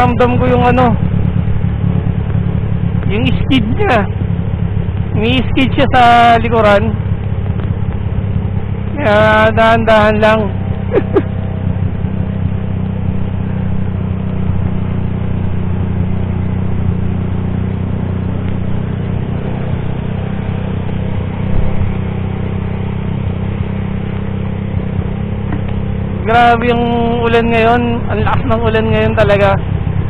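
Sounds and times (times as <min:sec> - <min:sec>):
motorcycle engine running: 0:00.0 - 0:30.0
wind: 0:00.0 - 0:30.0.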